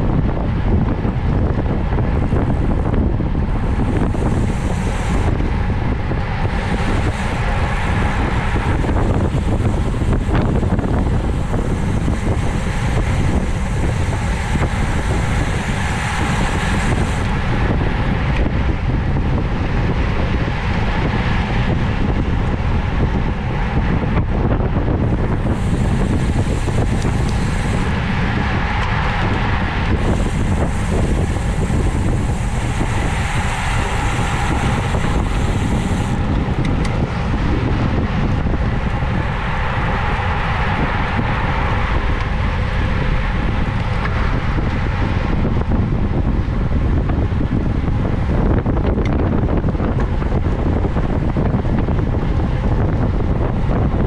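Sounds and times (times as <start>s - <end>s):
road noise: 0.0s - 54.0s
wind rush over microphone: 0.0s - 54.0s.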